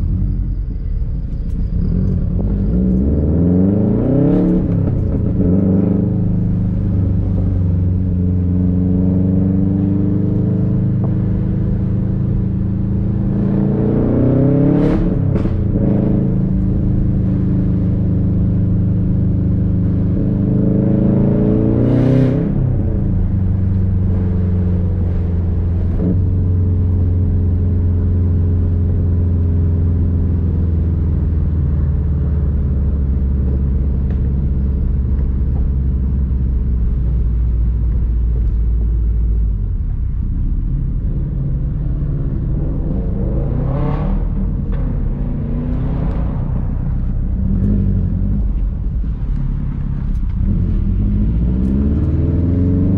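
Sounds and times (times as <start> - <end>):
car engine revving: 1.4 - 52.9.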